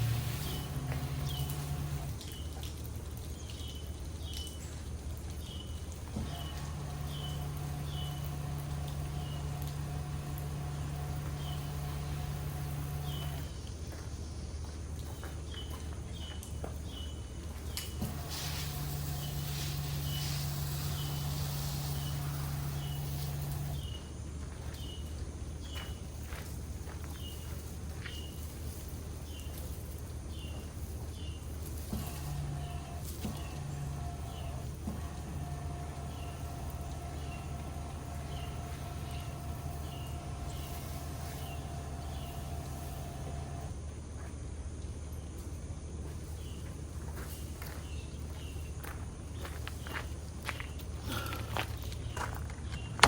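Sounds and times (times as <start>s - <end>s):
songbird chirping: 0.0s - 53.0s
steady low hum: 0.0s - 53.0s.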